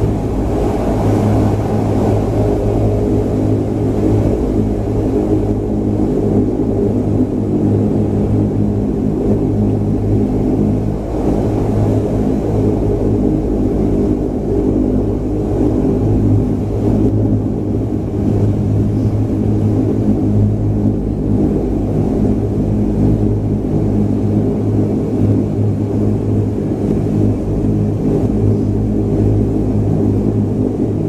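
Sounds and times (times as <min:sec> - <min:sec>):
turboprop engines in cabin: 0:00.0 - 0:31.0.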